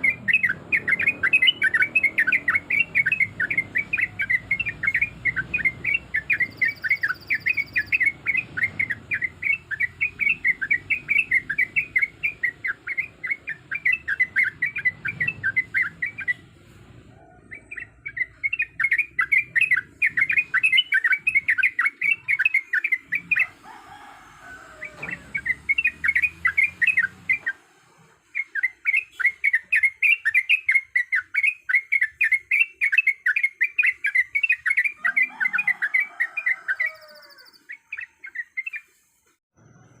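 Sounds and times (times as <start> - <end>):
bird singing chattering song: 0.0 - 16.6, 17.2 - 23.6, 24.7 - 27.6, 28.3 - 39.1.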